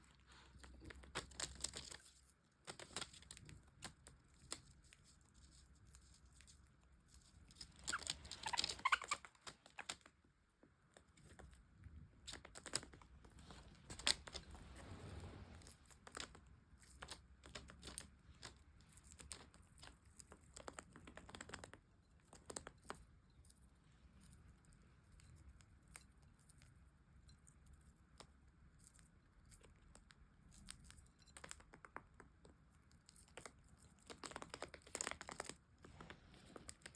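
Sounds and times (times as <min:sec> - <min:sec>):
budgerigar pecking and chewing: 0:00.1 - 0:36.9.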